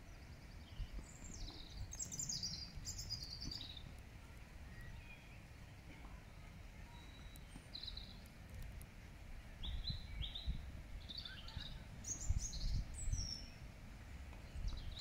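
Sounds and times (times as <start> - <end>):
low uneven rumble: 0.0 - 15.0
small birds chirping: 0.0 - 15.0.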